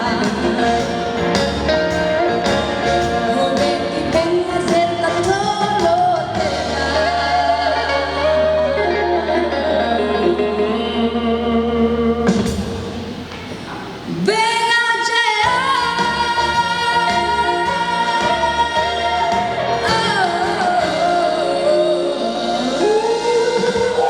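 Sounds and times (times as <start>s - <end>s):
woman singing: 0.0s - 1.6s, 3.0s - 12.6s, 14.2s - 24.0s
backing music: 0.0s - 13.3s, 15.5s - 24.0s.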